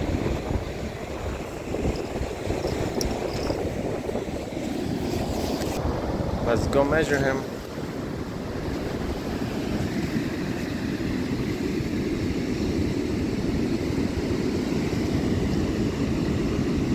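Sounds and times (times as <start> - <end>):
shallow surf washing: 0.0 - 16.9
wind buffeting microphone: 0.0 - 16.9.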